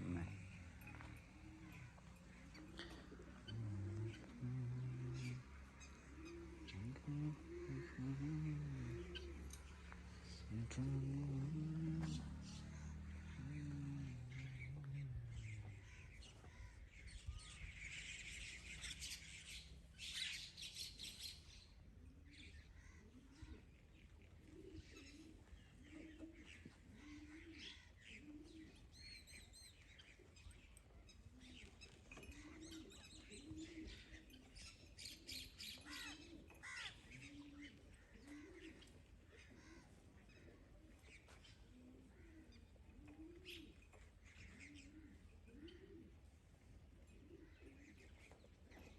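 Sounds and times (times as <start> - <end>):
small birds chirping: 0.0 - 46.1
dove cooing: 0.0 - 48.9.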